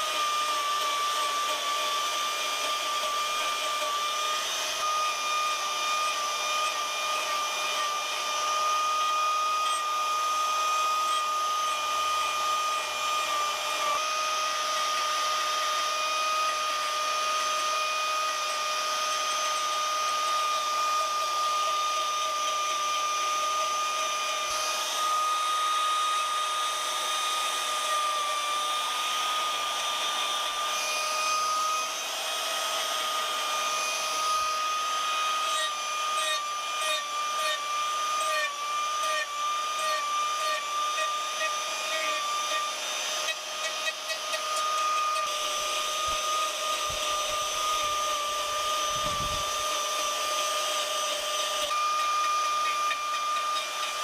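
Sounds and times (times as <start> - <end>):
power carving tool whining: 0.0 - 54.0.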